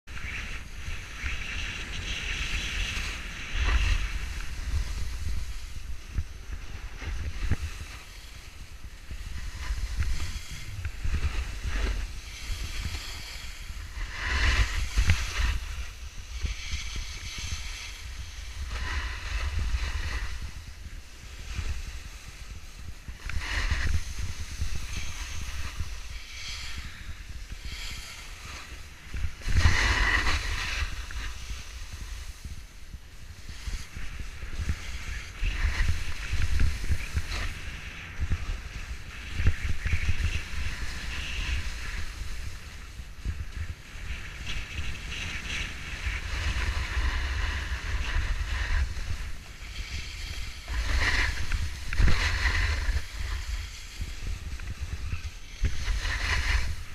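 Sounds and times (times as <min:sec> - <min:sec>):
skis scraping on packed snow: 0:00.1 - 0:56.9
wind buffeting microphone: 0:00.1 - 0:56.9.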